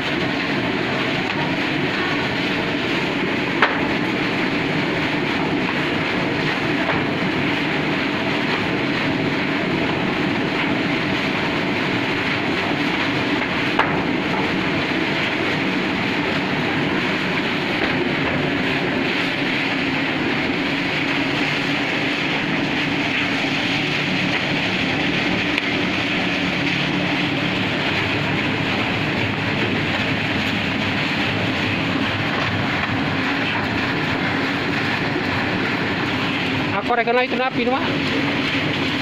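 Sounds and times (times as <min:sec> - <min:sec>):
machine running steadily: 0:00.0 - 0:39.0.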